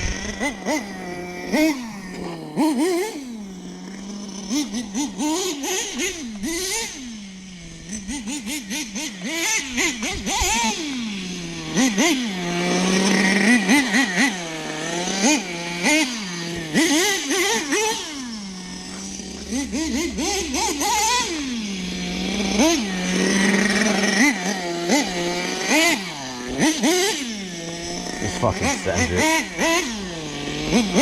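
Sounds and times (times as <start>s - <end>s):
model nitro engine revving and idling: 0.0s - 31.0s.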